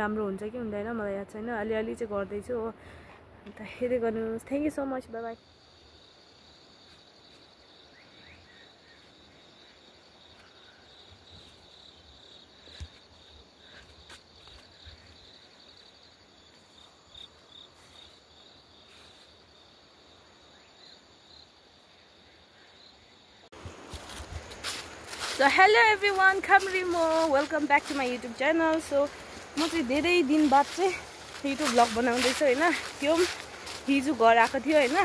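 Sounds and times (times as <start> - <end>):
insects chirring: 3.5 - 35.0.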